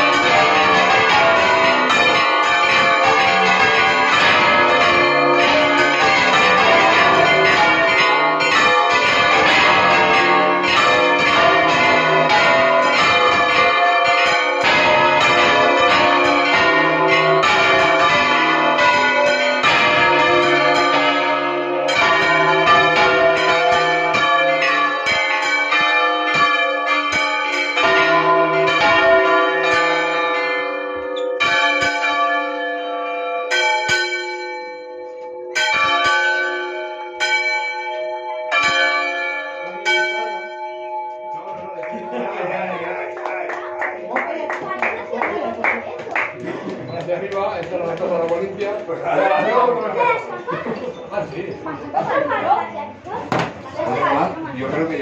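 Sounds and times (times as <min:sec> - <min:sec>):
church bells ringing: 0:00.0 - 0:52.9, 0:53.6 - 0:55.0.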